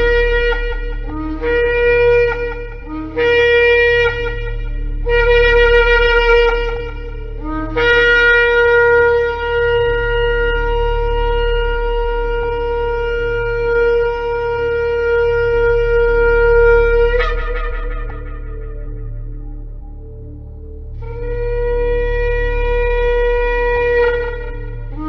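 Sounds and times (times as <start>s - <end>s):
shofar blasts: 0.0s - 20.1s, 21.0s - 25.0s.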